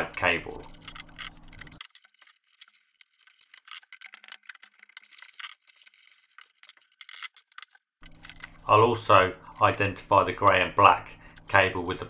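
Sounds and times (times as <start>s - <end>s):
hands handling cables: 0.0s - 9.9s.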